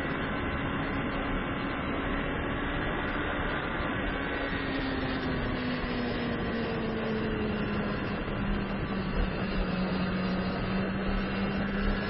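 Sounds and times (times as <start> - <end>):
motorcycle engine at speed: 0.0 - 12.0
wind and road rush: 0.0 - 12.0.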